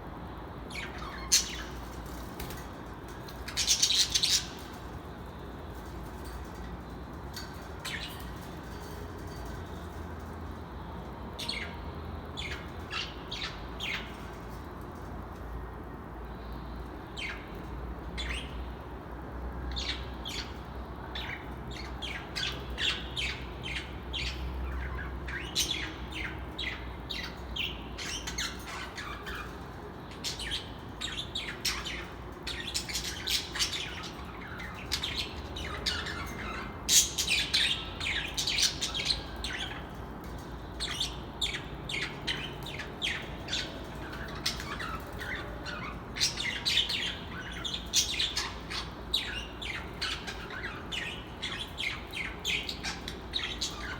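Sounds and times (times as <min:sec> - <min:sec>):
birds chirping and squawking: 0:00.7 - 0:15.4, 0:19.6 - 0:53.9.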